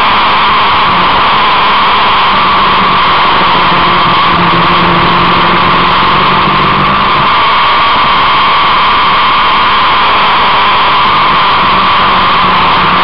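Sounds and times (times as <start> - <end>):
engine drone: 0.0 - 13.0
wind and road noise: 0.0 - 13.0.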